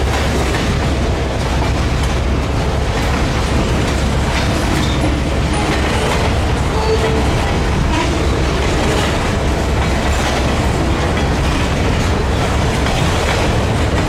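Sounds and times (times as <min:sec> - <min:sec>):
freight train rumbling past: 0:00.0 - 0:14.0
wheels clacking over rail joints: 0:00.0 - 0:14.0.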